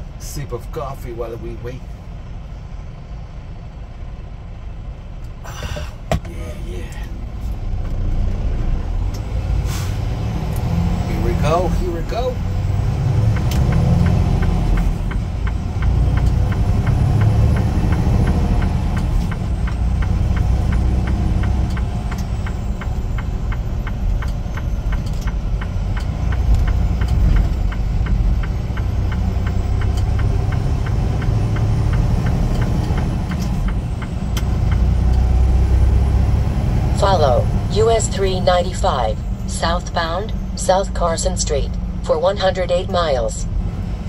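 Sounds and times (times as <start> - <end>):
diesel engine rumble: 0.0 - 44.0.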